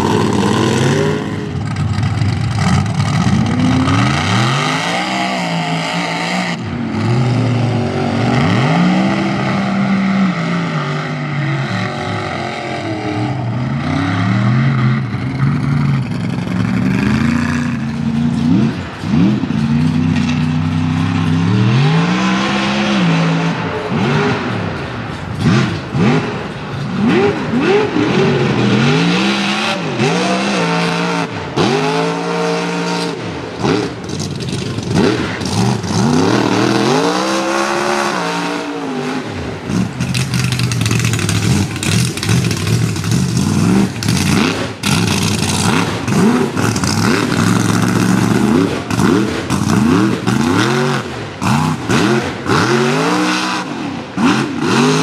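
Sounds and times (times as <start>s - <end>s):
truck engine revving hard: 0.0s - 55.0s.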